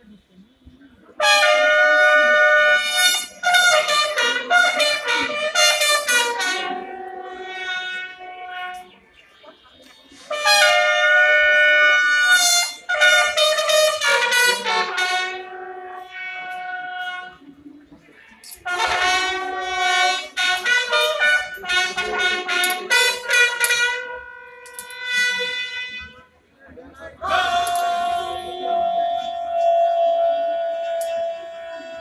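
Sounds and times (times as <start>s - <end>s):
brass band playing a march: 1.2s - 9.0s, 10.1s - 17.5s, 18.6s - 26.2s, 27.2s - 32.0s.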